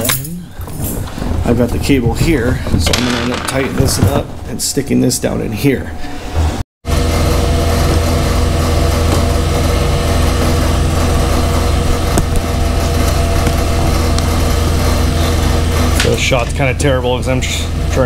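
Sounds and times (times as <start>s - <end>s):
machine hum: 0.0s - 18.0s
steady tones: 0.0s - 18.0s.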